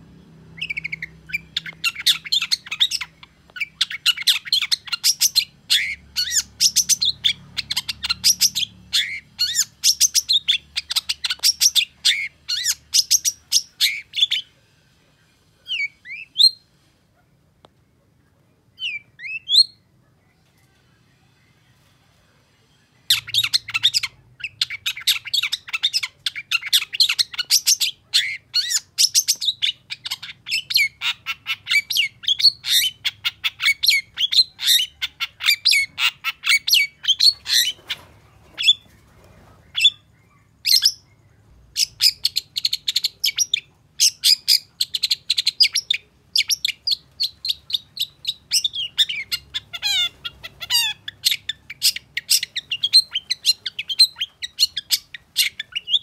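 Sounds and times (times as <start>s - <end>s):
shrike singing chattering song: 0.1s - 14.6s, 23.0s - 56.0s.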